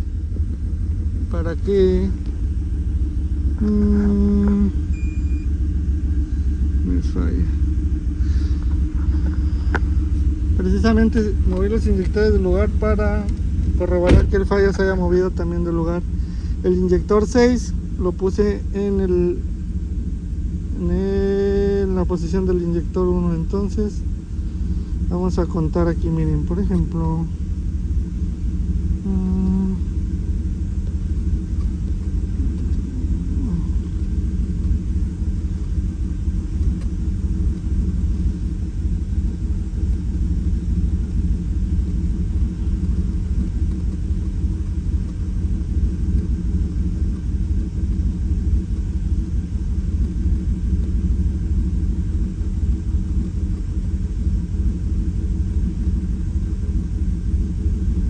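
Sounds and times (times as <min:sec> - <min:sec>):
misfiring engine idling: 0:00.0 - 0:58.0.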